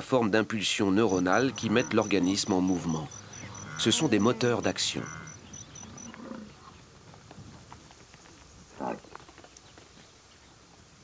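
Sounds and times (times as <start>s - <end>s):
faint savanna ambience: 0.0s - 11.0s.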